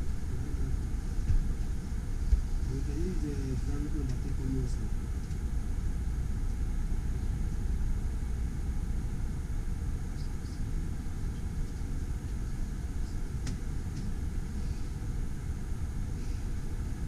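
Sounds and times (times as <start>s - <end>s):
train carriage low rumble: 0.0s - 17.0s.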